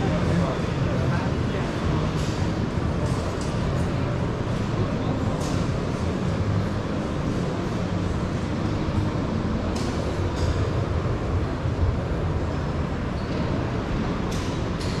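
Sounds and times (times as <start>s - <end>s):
exhibition hall background rumble: 0.0s - 15.0s.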